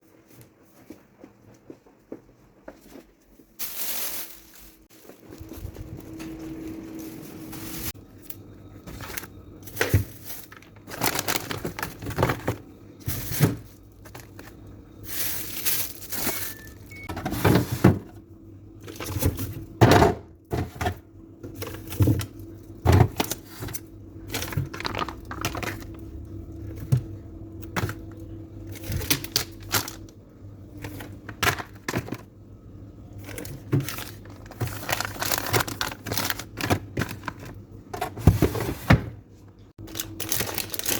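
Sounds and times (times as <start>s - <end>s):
items clattering into refrigerator: 3.6s - 40.9s.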